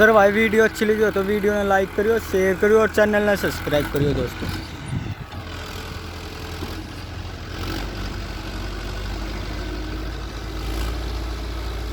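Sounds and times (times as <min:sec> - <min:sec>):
tractor diesel engine idling: 0:00.0 - 0:11.9.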